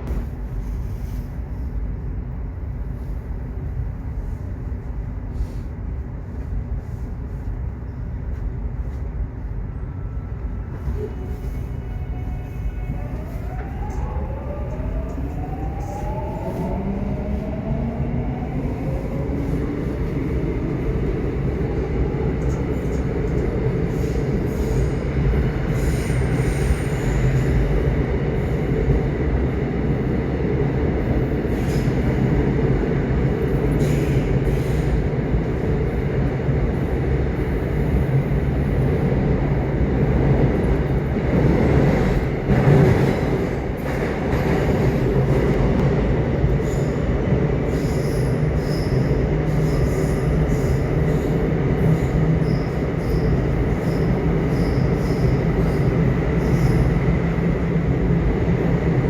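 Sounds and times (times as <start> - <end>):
subway train rumble: 0.0 - 59.0
subway train whine: 0.0 - 59.0.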